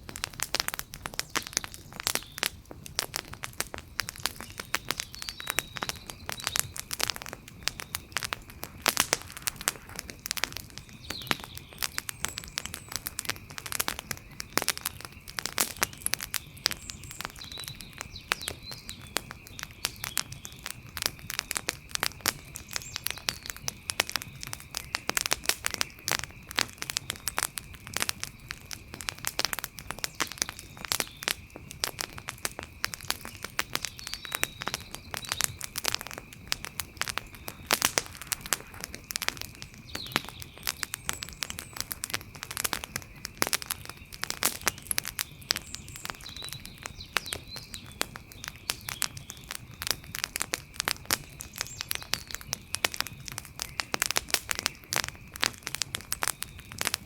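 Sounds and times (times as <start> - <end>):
wood fire crackling: 0.0 - 57.0
faint chirps: 4.2 - 57.0.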